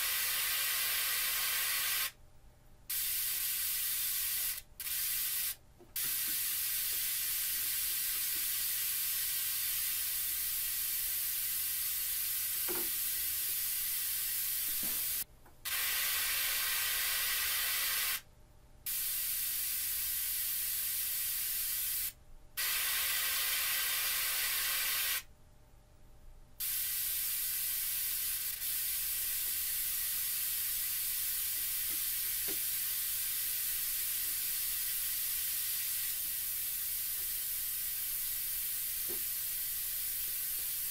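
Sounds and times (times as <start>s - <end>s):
test noise hiss from tweeter: 0.0s - 25.4s, 26.2s - 40.9s.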